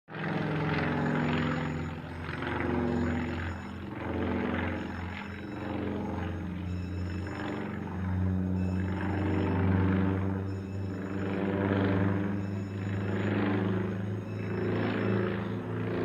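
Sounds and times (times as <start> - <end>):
aircraft engine drone: 0.1 - 16.0.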